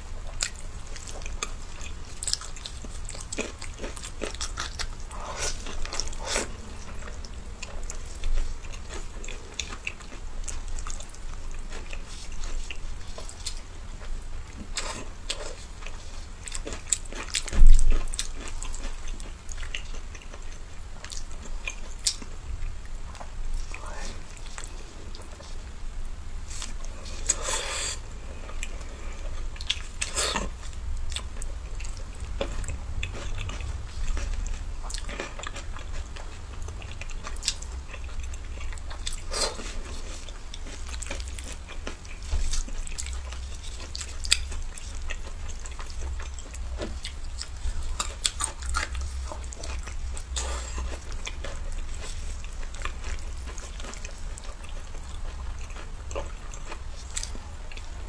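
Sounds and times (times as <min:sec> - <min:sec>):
low steady hum: 0:00.0 - 0:58.0
wet chewing and lip smacks: 0:00.3 - 0:25.7, 0:28.4 - 0:58.0.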